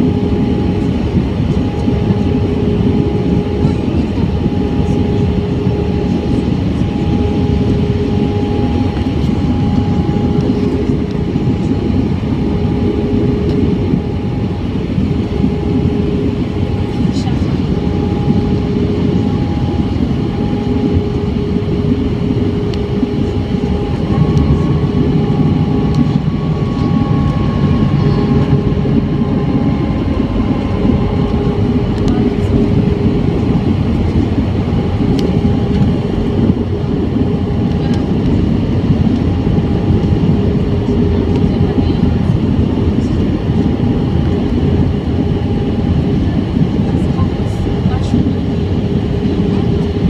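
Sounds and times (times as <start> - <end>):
faint steady hum: 0.0 - 50.0
jet engine and airflow roar: 0.0 - 50.0.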